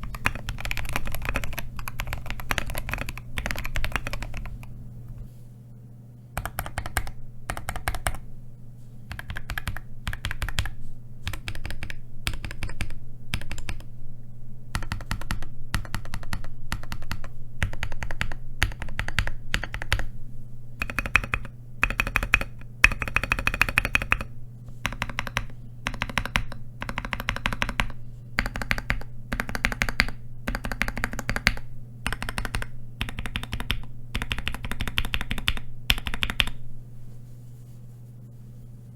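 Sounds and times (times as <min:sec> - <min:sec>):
mechanical keyboard clacks: 0:00.0 - 0:04.7, 0:06.4 - 0:08.2, 0:09.1 - 0:13.9, 0:14.7 - 0:20.1, 0:20.8 - 0:36.6
faint low hum: 0:00.0 - 0:38.9.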